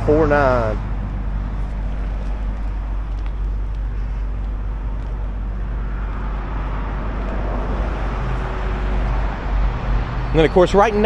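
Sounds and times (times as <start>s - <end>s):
deep low rumble: 0.0s - 10.4s.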